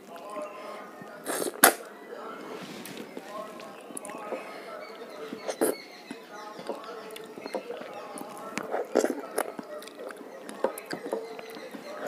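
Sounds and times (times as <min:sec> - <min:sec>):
sucking and chewing: 0:00.0 - 0:12.0.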